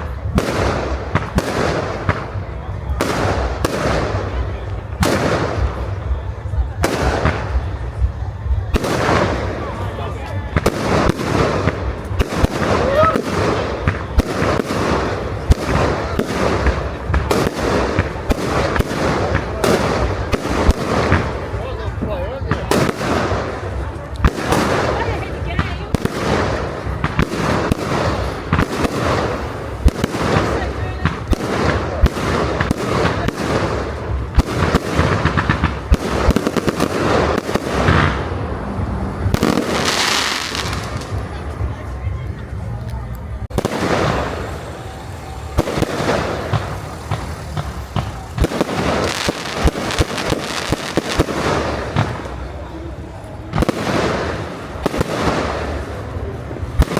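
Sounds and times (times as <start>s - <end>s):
crowd voices: 0.0s - 56.9s
fireworks bangs and cracks: 0.0s - 56.9s.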